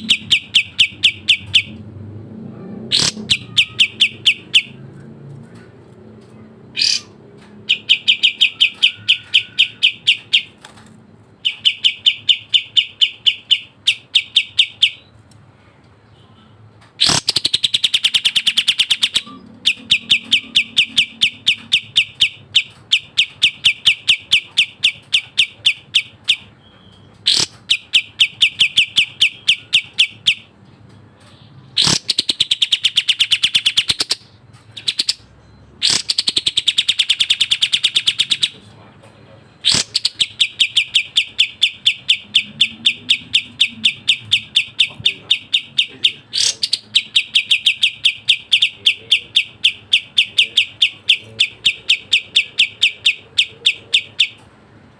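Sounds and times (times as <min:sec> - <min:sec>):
songbird chirping rapidly: 0:00.0 - 0:15.2, 0:16.0 - 0:54.5.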